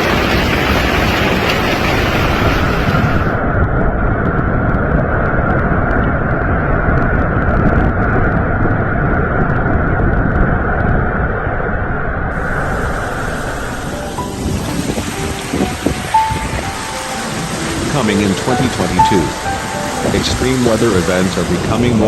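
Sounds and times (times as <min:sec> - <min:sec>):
low rumbling rush: 0:00.0 - 0:22.0.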